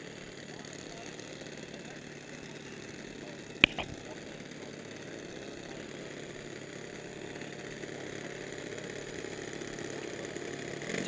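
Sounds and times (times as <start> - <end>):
model plane engines running: 0.0 - 11.0.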